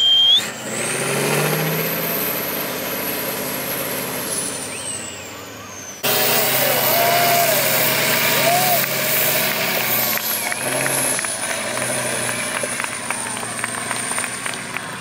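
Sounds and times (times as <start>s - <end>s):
truck diesel engine labouring: 0.0s - 15.0s.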